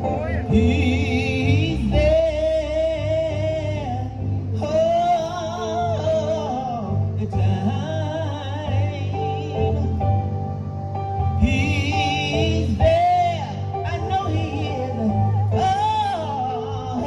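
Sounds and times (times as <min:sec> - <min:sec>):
digital piano chords and bass: 0:00.0 - 0:17.0.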